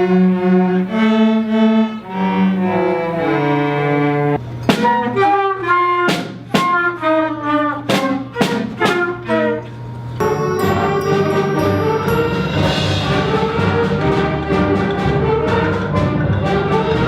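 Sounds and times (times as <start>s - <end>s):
brass and wind music: 0.0s - 17.0s.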